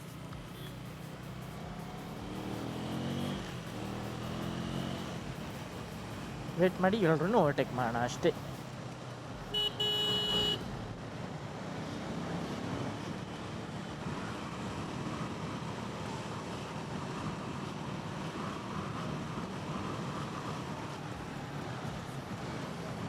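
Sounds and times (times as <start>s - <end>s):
city traffic noise: 0.0s - 23.0s.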